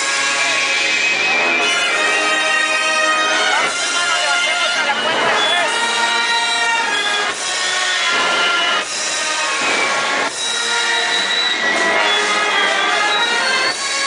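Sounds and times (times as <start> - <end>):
band playing funeral march: 0.0 - 14.0.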